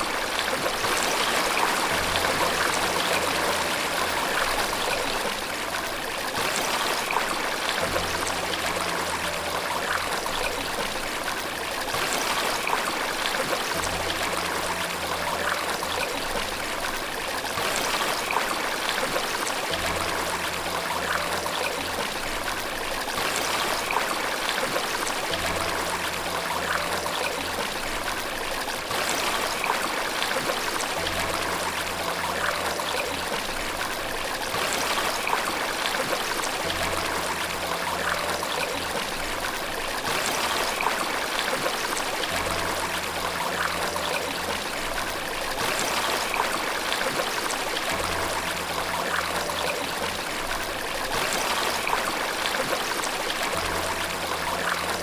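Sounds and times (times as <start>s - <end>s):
running water rushing and trickling: 0.0s - 55.0s.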